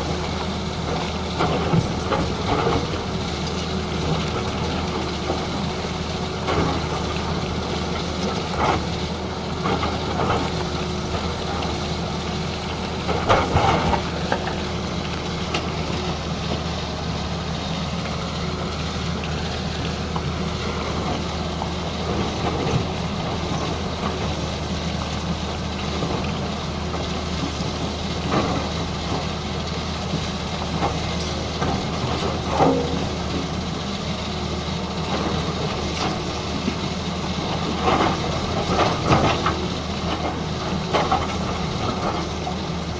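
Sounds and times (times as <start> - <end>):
excavator engine droning: 0.0 - 42.9.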